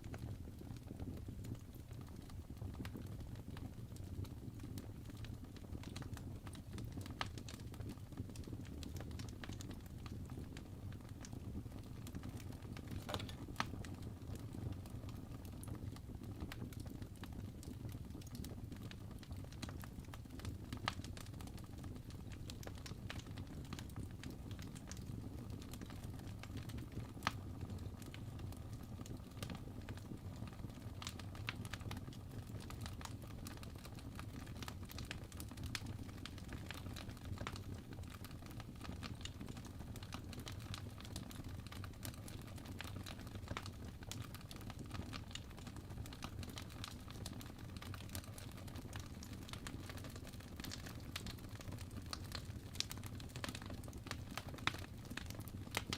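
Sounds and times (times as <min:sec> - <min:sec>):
fire crackling and popping: 0:00.0 - 0:55.9
low rumble of flame: 0:00.0 - 0:55.9.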